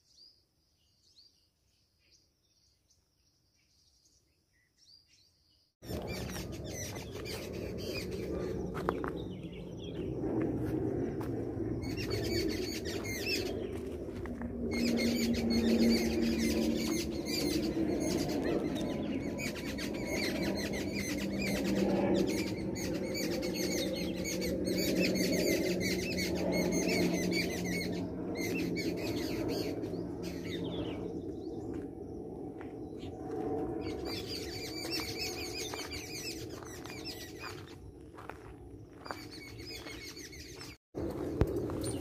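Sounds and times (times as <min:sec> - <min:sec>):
birds chirping in chorus: 0:00.0 - 0:42.0.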